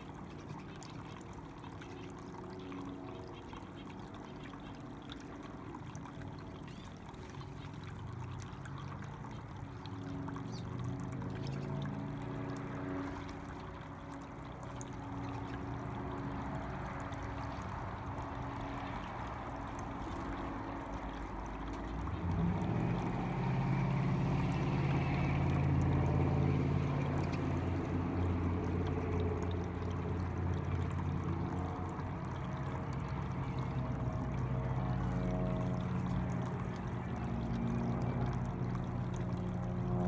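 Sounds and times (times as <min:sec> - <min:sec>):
fountain water trickling: 0:00.0 - 0:40.0
low motor hum: 0:00.0 - 0:40.0.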